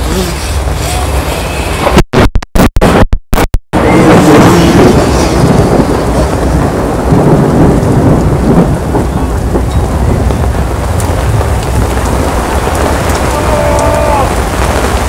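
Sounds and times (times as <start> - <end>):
deep rumble: 0.0 - 15.0
heavy rain pouring: 0.0 - 15.0.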